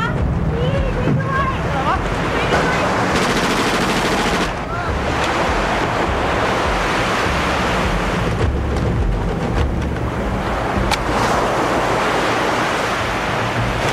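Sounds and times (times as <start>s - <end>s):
surf rushing: 0.0s - 13.9s
wind: 0.0s - 13.9s.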